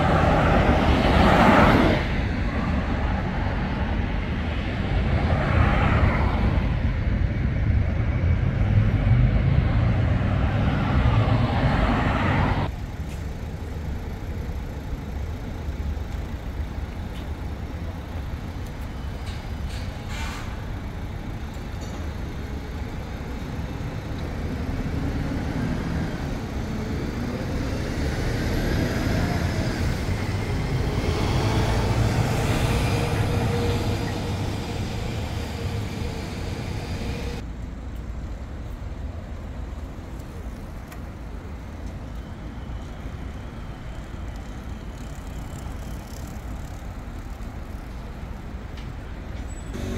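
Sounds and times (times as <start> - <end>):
street traffic passing: 0.0 - 49.9.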